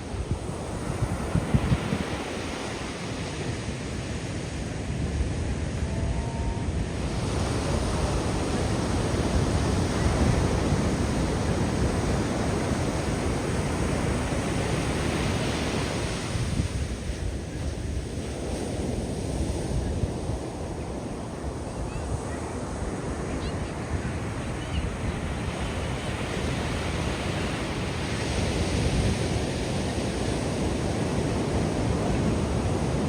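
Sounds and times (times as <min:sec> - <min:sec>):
ocean surf washing onto beach: 0:00.0 - 0:33.0
wind on microphone: 0:00.0 - 0:33.0.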